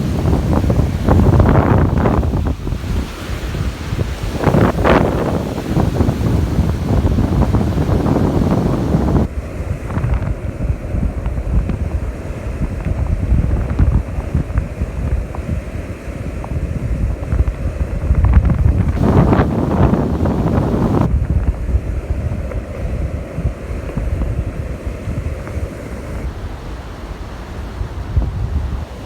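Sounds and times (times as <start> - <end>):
surf washing: 0.0 - 29.0
wind buffeting microphone: 0.0 - 29.0.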